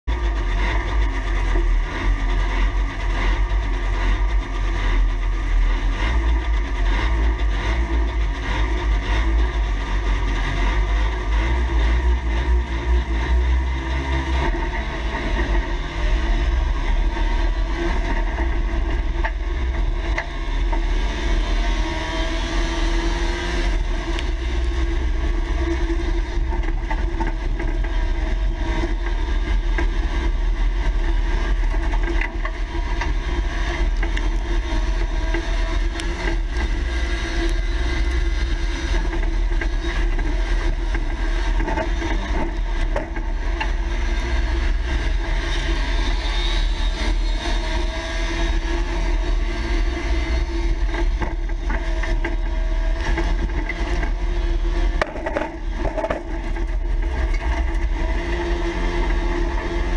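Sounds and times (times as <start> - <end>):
two-stroke engine revving: 0.2 - 59.9.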